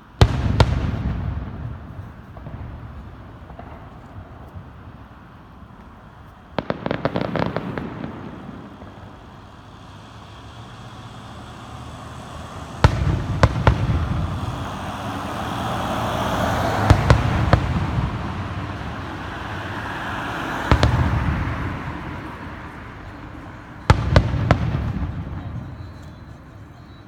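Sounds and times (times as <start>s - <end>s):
firework shells booming: 0.0s - 10.2s, 12.7s - 27.0s
firework crackling reports: 0.0s - 27.0s.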